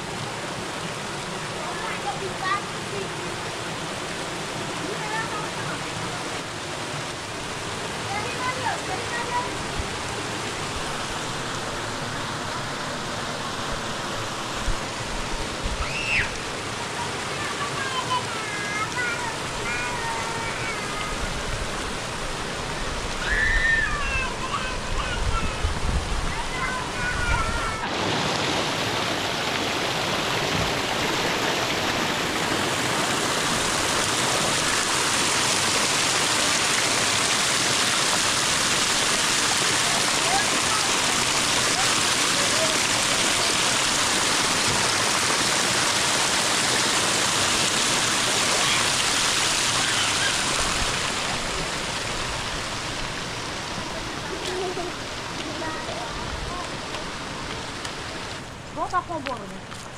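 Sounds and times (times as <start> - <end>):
waterfall rushing: 0.0 - 59.3.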